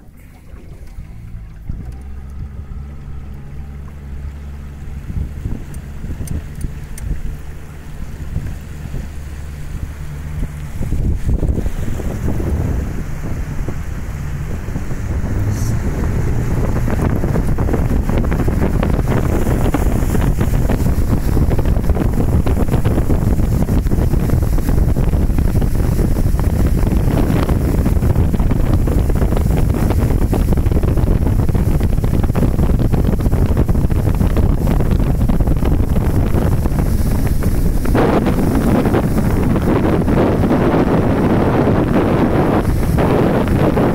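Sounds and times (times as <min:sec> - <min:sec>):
boat motor running: 0:00.0 - 0:43.9
water rushing past hull: 0:00.0 - 0:43.9
wind buffeting microphone: 0:00.0 - 0:43.9.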